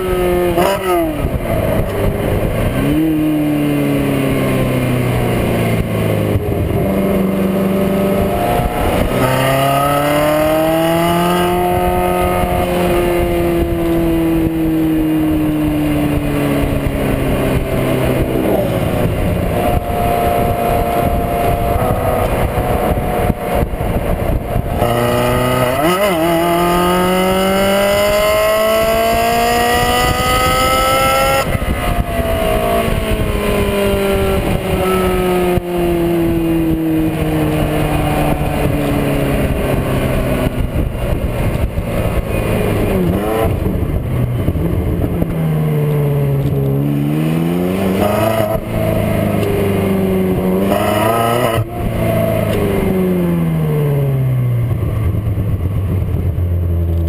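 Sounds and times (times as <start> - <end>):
car exhaust revving: 0.0 - 57.0.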